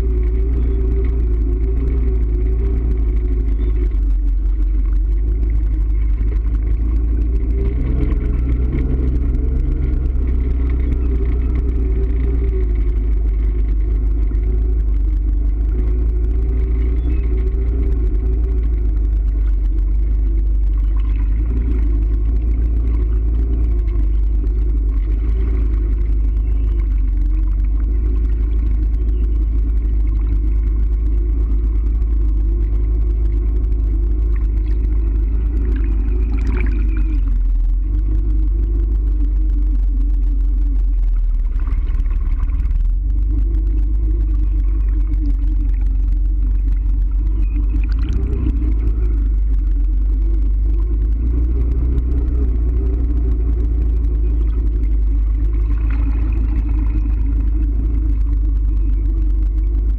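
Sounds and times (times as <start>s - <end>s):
vehicle engine rumbling while driving: 0.0s - 59.9s.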